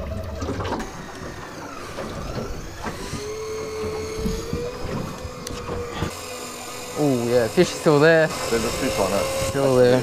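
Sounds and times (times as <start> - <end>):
electric fishing reel whine: 0.0 - 10.0.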